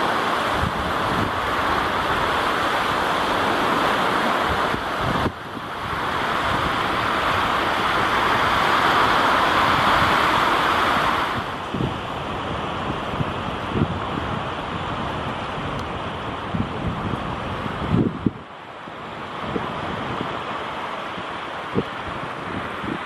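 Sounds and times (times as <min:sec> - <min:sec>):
surf breaking on shore: 0:00.0 - 0:23.0
wind buffeting microphone: 0:00.0 - 0:23.0.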